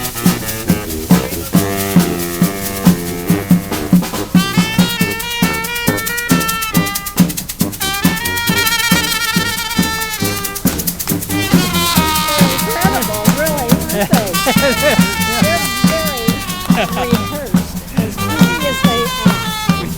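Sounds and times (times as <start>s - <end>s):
brass band playing: 0.0s - 19.9s.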